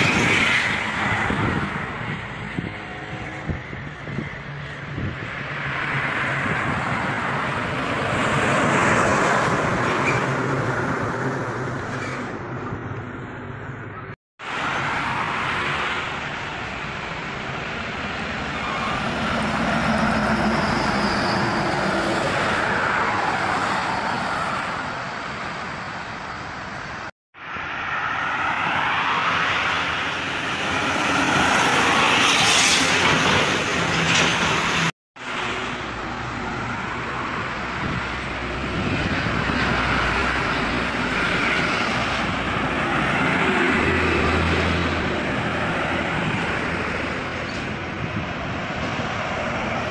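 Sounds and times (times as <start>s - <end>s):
highway traffic passing: 0.0s - 49.9s.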